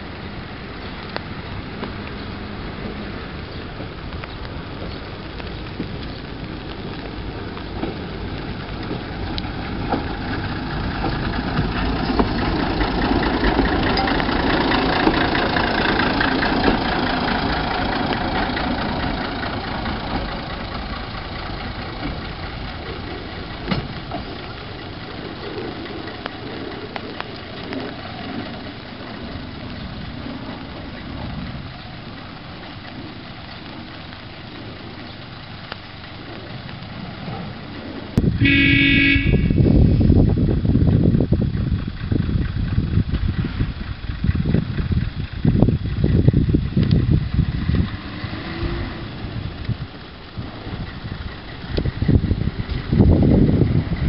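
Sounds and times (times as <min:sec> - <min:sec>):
diesel railcar running: 0:00.0 - 0:54.0.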